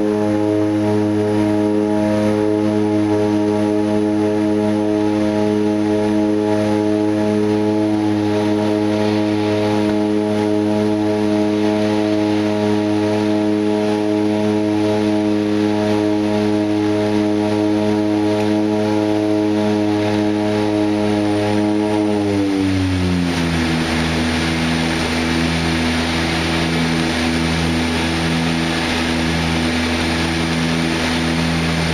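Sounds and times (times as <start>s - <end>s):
turboprop engines droning: 0.0s - 31.9s.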